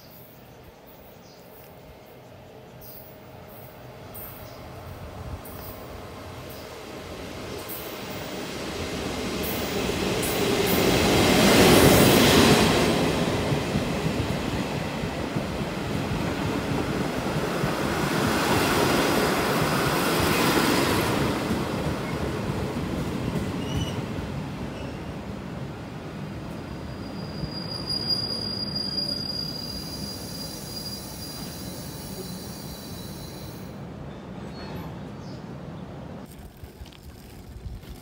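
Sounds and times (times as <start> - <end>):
train rumbling past: 0.3 - 36.3.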